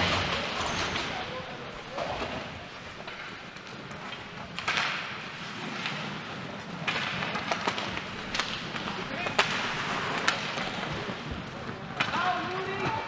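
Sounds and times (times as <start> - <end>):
skates scraping ice: 0.0 - 13.0
sticks and puck clacking: 0.0 - 13.0.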